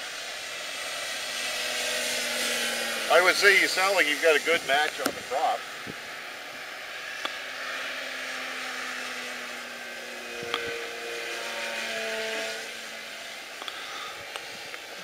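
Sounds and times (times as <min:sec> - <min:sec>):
model plane motor buzzing: 0:00.0 - 0:15.0.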